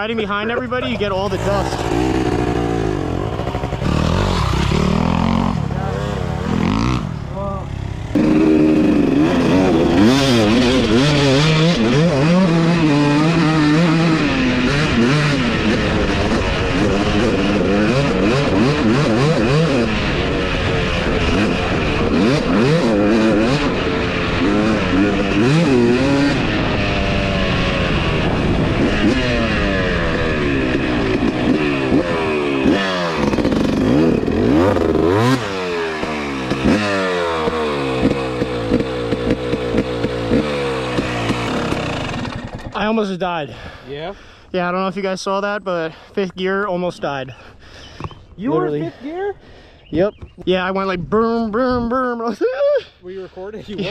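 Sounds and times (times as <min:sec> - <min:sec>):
two-stroke dirt bike engine revving: 0:00.0 - 0:49.0.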